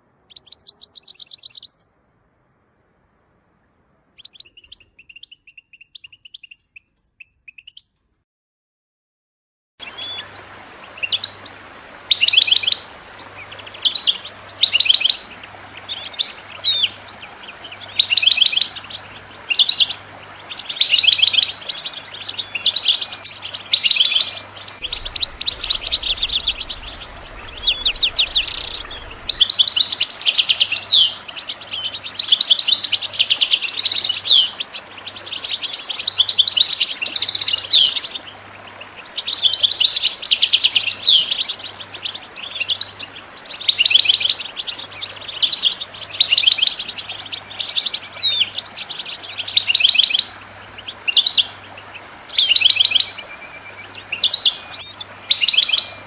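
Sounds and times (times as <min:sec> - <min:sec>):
goldfinch chattering and twittering: 0:00.3 - 0:01.8, 0:12.1 - 0:56.0.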